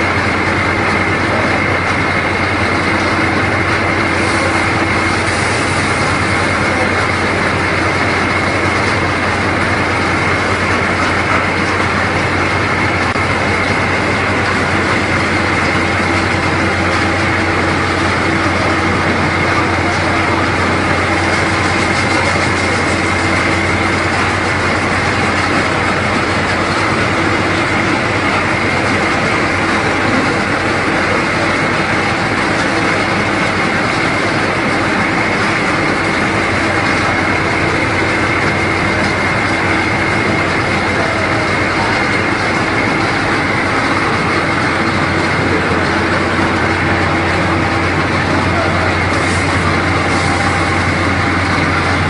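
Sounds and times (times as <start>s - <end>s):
rice milling machine running: 0.0s - 52.0s.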